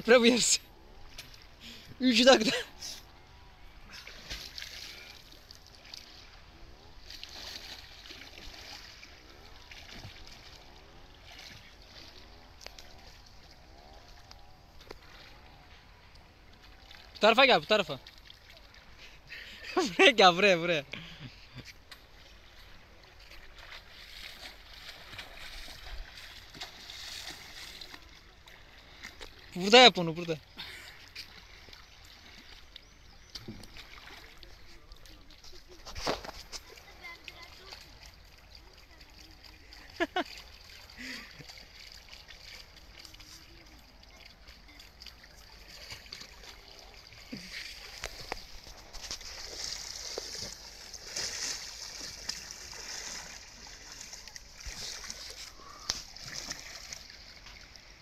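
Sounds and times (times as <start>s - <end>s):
person swimming splashing: 0.3s - 16.0s, 21.3s - 29.7s, 30.5s - 58.0s.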